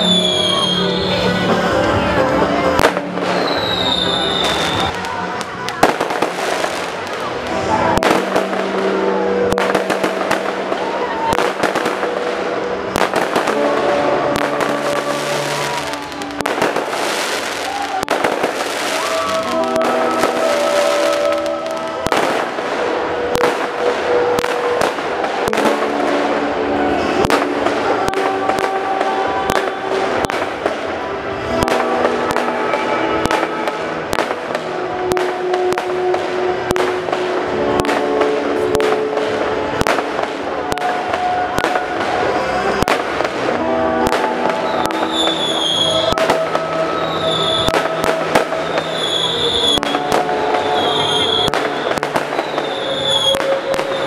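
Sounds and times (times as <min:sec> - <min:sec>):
fireworks bangs and crackles: 0:00.0 - 0:54.0
music with held notes: 0:00.0 - 0:54.0.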